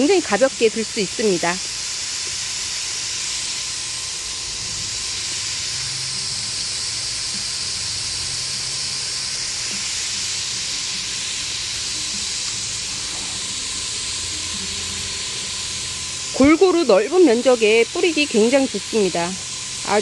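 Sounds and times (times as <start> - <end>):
water spray hissing: 0.0 - 20.0.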